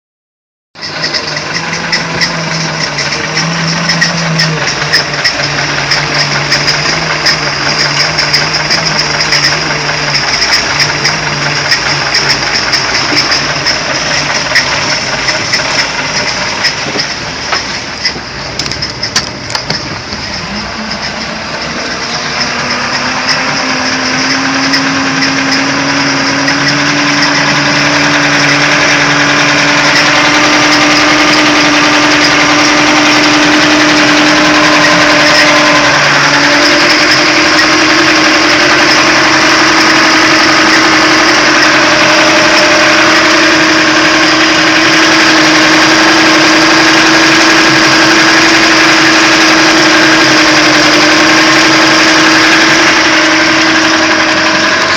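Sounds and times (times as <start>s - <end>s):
boat engine humming: 0.8s - 54.9s.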